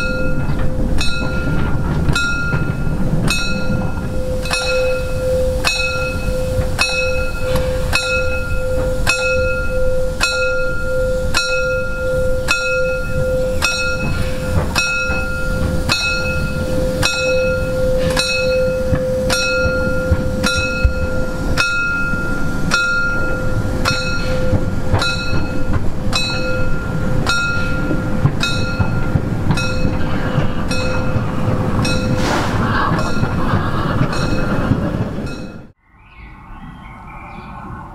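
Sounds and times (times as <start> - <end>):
locomotive bell ringing: 0.0 - 35.8
steam hissing: 0.0 - 35.8
engine and wheels rumbling on rails: 0.0 - 37.9.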